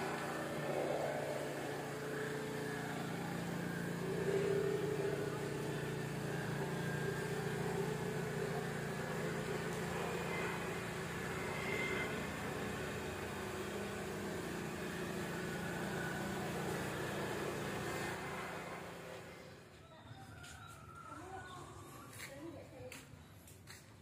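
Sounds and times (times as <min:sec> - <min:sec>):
motor engine running: 0:00.0 - 0:19.7.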